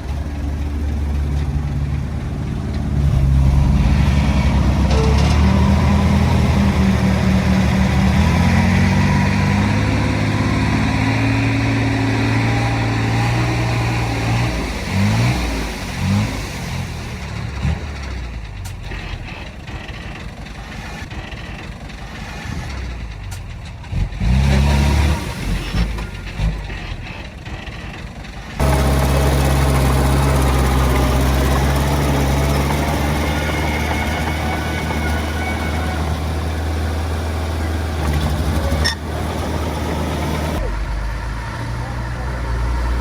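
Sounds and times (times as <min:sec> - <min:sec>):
diesel engine running and revving: 0:00.0 - 0:43.0.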